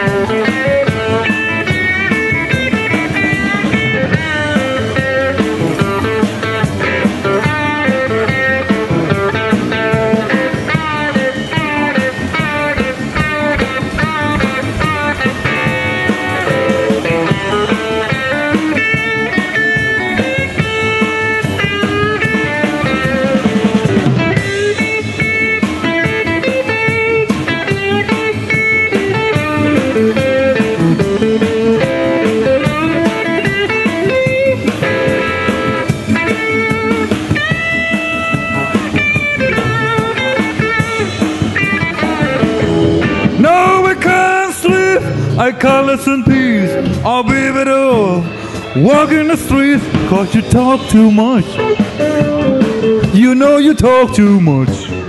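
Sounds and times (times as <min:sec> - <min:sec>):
blues band playing: 0:00.0 - 0:55.0
electric guitar bending notes: 0:00.0 - 0:55.0.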